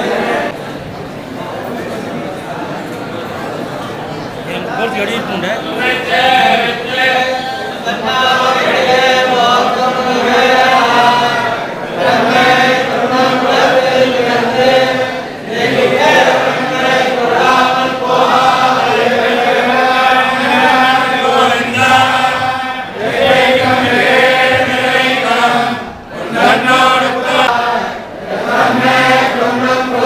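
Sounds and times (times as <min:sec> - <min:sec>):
men chanting together: 0:05.7 - 0:30.0.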